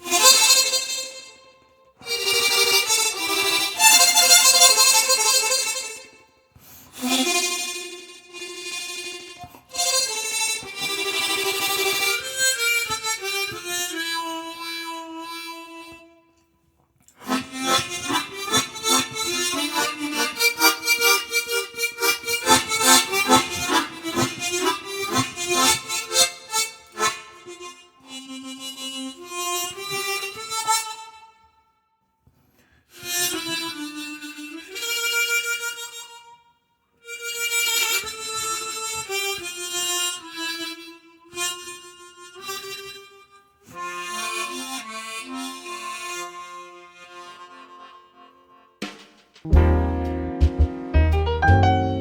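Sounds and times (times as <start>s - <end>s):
harmonica playing slow melody: 0.0s - 31.7s, 32.6s - 52.0s.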